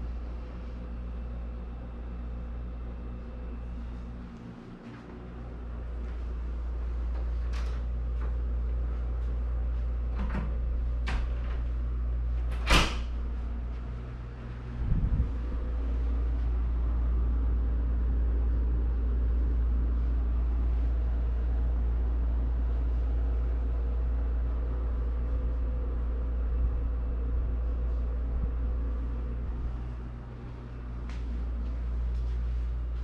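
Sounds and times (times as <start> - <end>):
air conditioner humming: 0.0 - 33.0.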